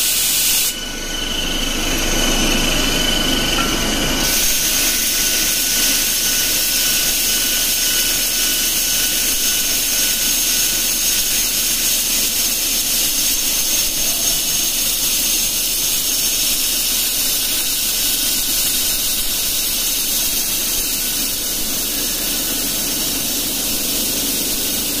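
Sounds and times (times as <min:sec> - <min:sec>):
belt grinder hissing on metal: 0:00.0 - 0:25.0
faint high whine: 0:00.0 - 0:25.0.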